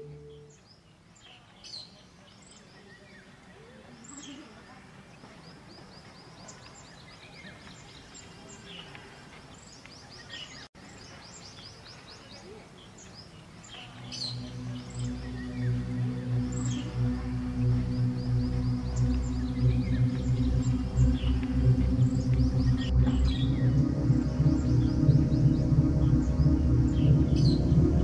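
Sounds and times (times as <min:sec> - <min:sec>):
birds chirping and trilling: 0:00.0 - 0:28.0
faint steady background noise: 0:00.0 - 0:28.0.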